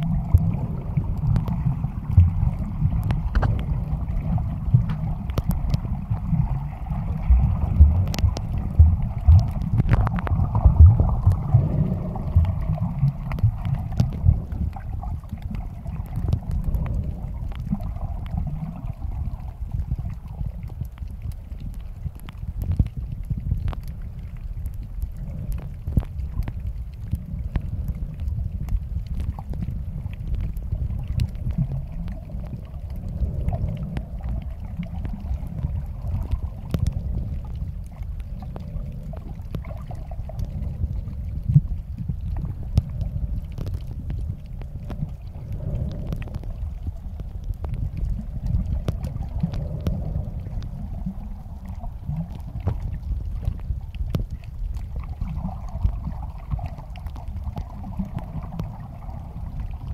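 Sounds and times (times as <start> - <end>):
underwater clicks and crackles: 0.0 - 59.9
underwater low rumble: 0.0 - 59.9.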